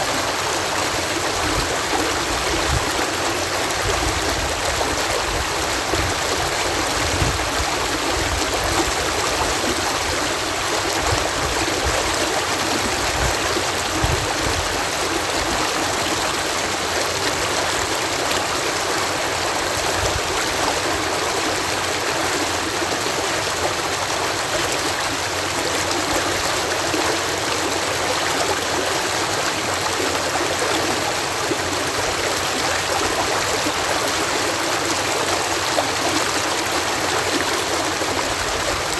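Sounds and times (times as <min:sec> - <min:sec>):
water cascading through lock: 0:00.0 - 0:38.9.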